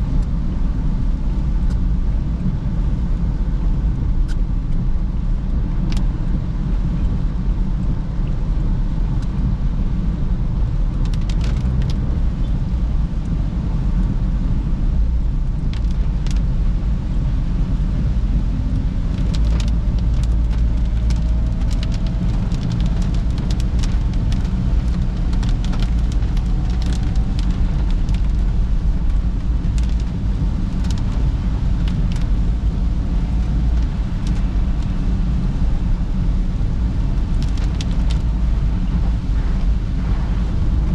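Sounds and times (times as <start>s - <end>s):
engine and tyres rumbling: 0.0s - 40.9s
raindrops hitting a car: 0.1s - 40.9s.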